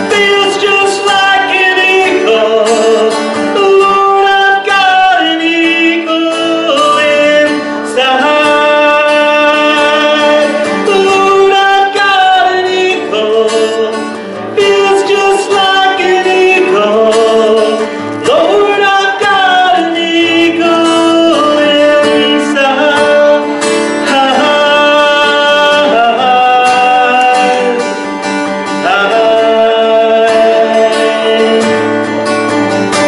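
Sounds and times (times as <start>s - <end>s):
man singing gospel song: 0.0s - 32.1s
strummed acoustic guitar: 0.0s - 33.0s.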